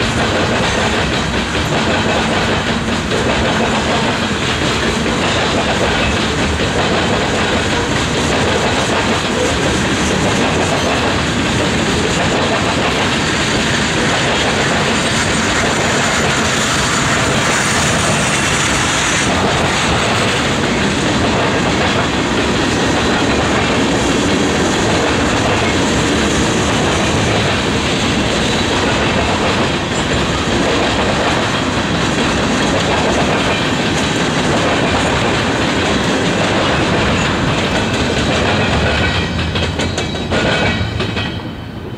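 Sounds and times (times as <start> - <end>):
wheels clacking over rail joints: 0.0 - 41.6.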